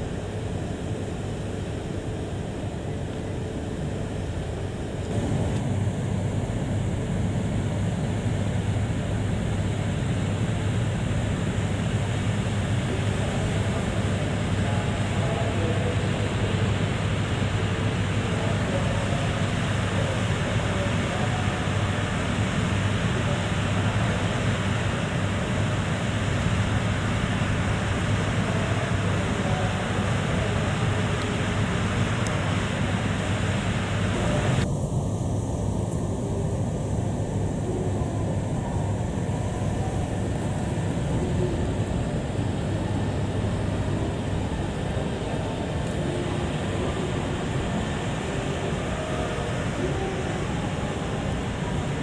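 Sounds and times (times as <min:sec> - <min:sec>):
constant rushing noise: 0:00.0 - 0:52.0
train rumbling on tracks: 0:00.0 - 0:52.0.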